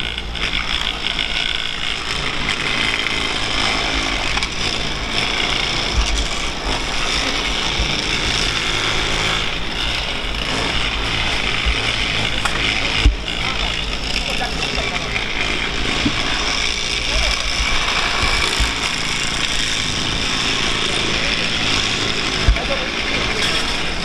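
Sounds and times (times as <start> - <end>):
track maintenance tools running: 0.0 - 24.0.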